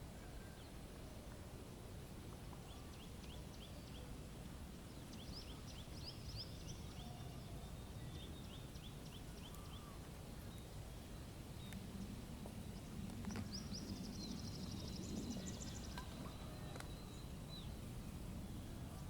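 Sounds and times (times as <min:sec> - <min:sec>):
low rumble of storm wind: 0:00.0 - 0:19.0
small birds chirping: 0:02.6 - 0:19.0.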